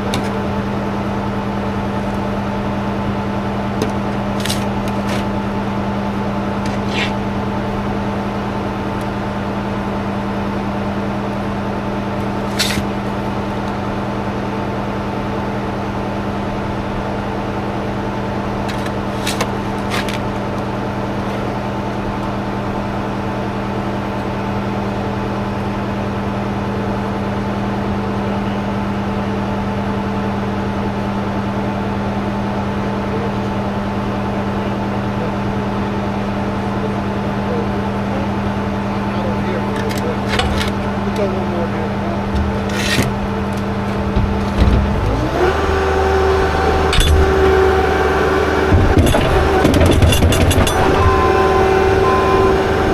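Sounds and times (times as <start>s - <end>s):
engine humming steadily: 0.0s - 52.9s.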